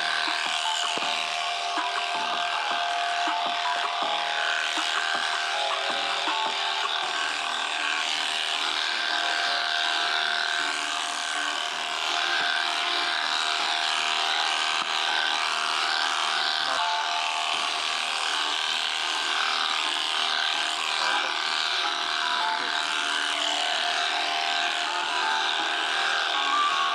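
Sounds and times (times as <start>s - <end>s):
electric shears clipping fleece: 0.0s - 26.9s.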